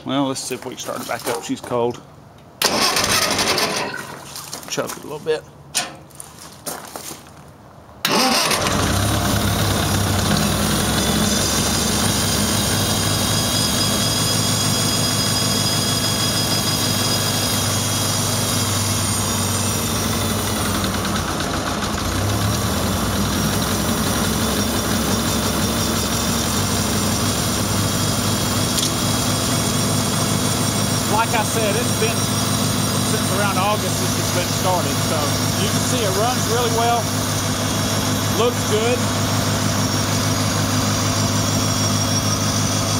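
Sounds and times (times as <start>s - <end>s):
tractor engine idling: 2.6s - 4.2s, 8.0s - 14.8s, 15.6s - 42.9s.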